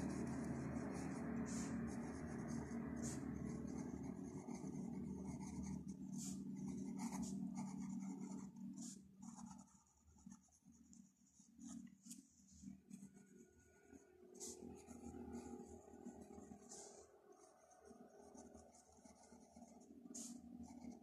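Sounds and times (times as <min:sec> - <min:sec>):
low hum: 0:00.0 - 0:21.0
pen scratching on paper: 0:00.0 - 0:21.0.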